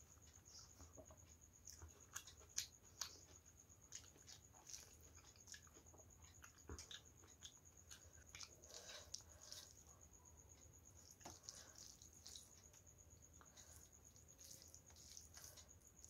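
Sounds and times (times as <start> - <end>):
chewing: 0.2 - 16.0
fingers mixing food on steel plate: 1.7 - 16.0.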